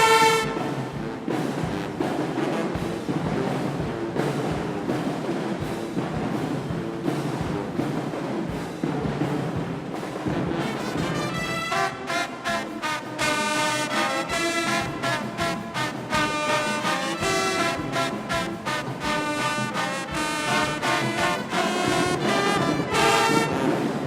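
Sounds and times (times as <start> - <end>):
held brass chords: 0.0 - 5.4, 9.6 - 24.0
drums beating: 0.0 - 24.0
marching band playing: 0.0 - 24.0.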